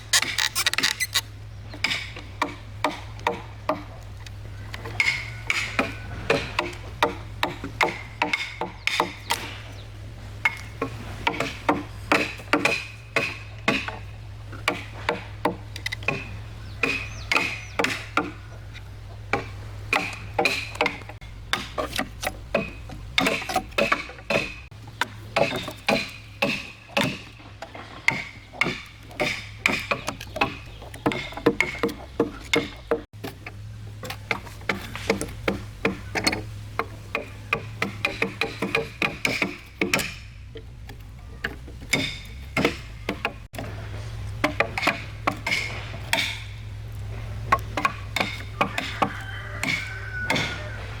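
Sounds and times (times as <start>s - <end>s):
hand tools knocking on timber: 0.2s - 51.0s.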